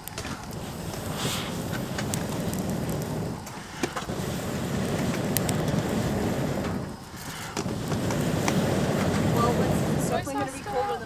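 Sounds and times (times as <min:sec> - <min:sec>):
bellows air rushing into fire: 0:00.0 - 0:11.0
burning wood crackling and popping: 0:00.0 - 0:11.0.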